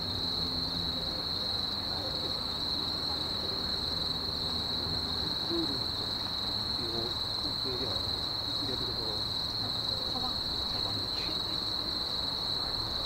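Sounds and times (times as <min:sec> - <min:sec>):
night insects chirring: 0:00.0 - 0:13.0
faint distant voices: 0:00.9 - 0:13.0.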